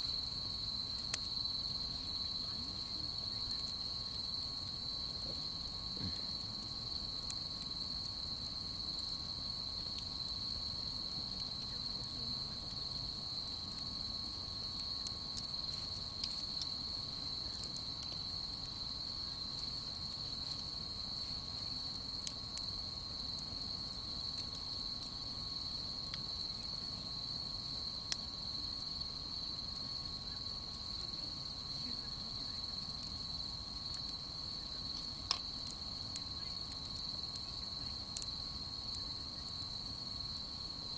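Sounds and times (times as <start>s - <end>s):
campfire popping: 0.0s - 40.9s
crickets chirping: 0.0s - 40.9s.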